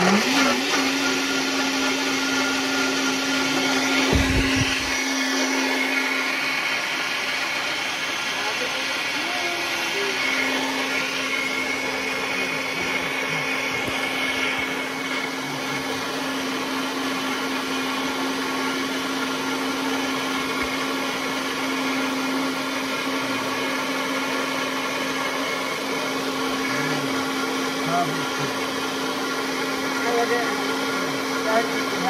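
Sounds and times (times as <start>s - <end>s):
blender motor running: 0.0s - 32.0s.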